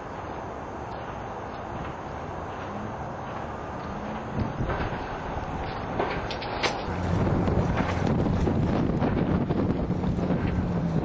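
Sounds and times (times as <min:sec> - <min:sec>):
boat motor droning: 0:00.0 - 0:11.0
wind rumbling on microphone: 0:00.0 - 0:11.0.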